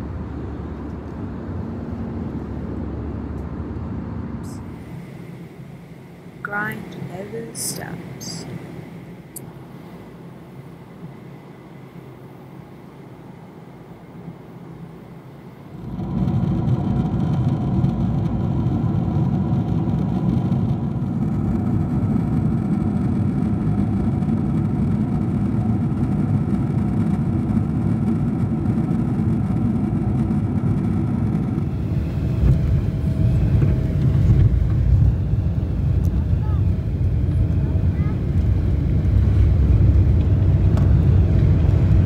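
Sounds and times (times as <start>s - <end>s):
faint steady hum: 0.0s - 42.0s
jet engines and airflow roaring: 0.0s - 42.0s.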